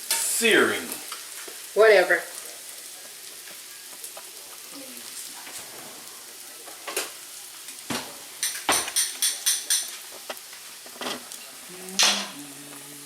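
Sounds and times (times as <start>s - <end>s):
potatoes sizzling in a skillet: 0.0s - 13.0s.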